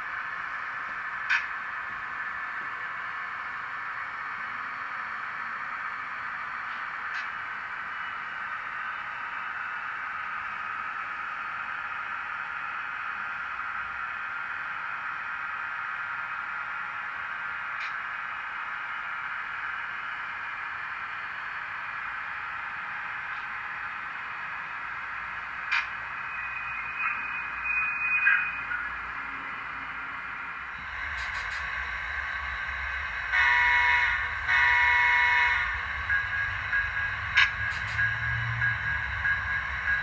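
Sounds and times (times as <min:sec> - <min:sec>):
model train running on track: 0:00.0 - 0:40.0.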